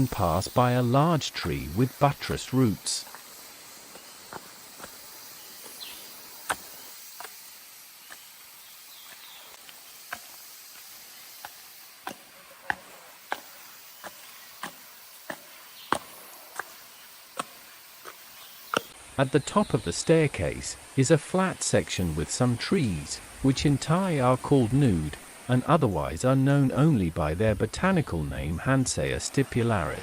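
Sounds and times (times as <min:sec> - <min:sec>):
faint high-pitched hiss: 0:00.0 - 0:30.0.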